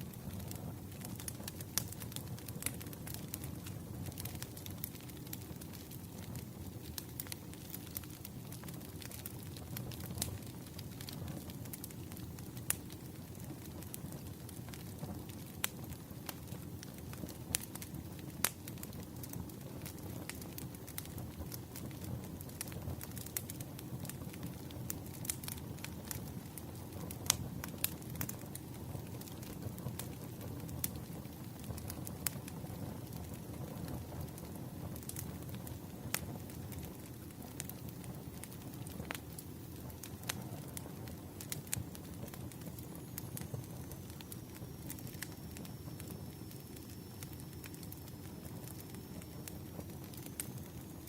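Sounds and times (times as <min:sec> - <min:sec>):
firewood crackling and popping: 0:00.0 - 0:51.0
low rumble of fire: 0:00.0 - 0:51.0.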